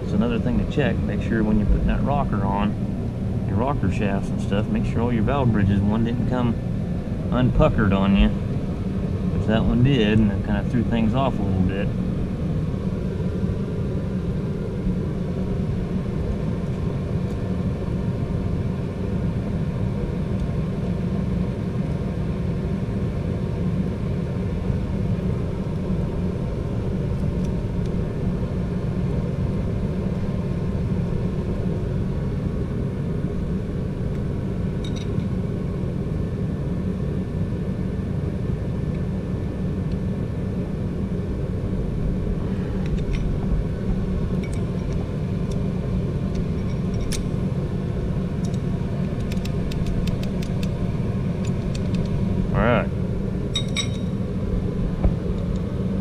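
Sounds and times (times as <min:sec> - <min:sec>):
low workshop rumble: 0:00.0 - 0:56.0.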